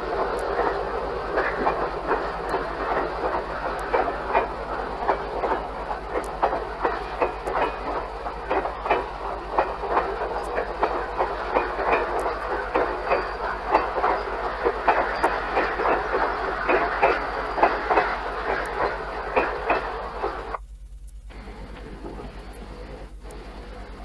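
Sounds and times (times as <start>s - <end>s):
train running gear rumble: 0.0s - 24.0s
train wheels clicking over rail joints: 0.0s - 24.0s.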